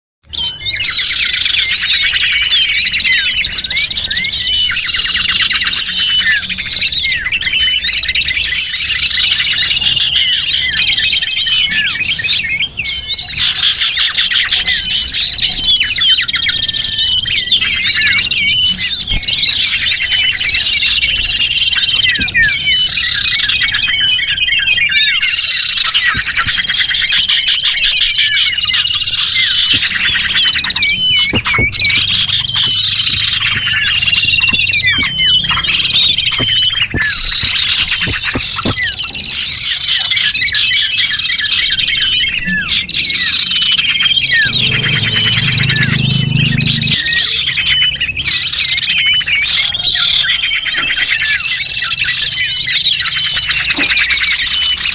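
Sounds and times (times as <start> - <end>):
small birds chirping and trilling: 0.2 - 54.9.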